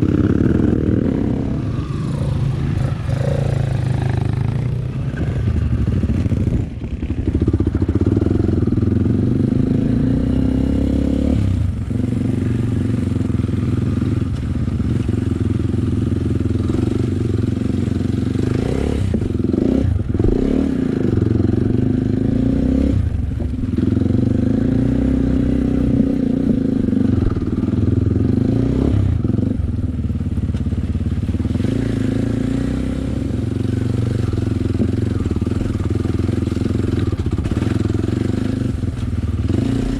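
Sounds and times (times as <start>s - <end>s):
dirt bike engine revving: 0.0s - 29.6s, 31.4s - 39.9s.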